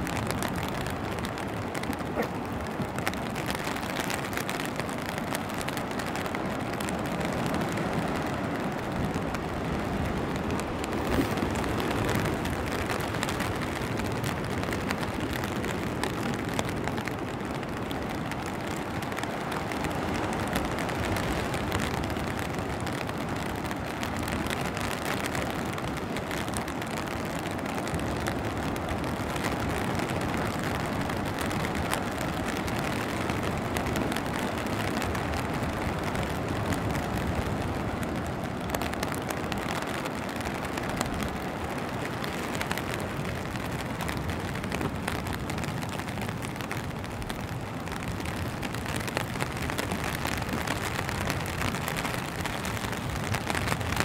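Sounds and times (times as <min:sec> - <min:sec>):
rain patter on foliage: 0:00.0 - 0:54.0.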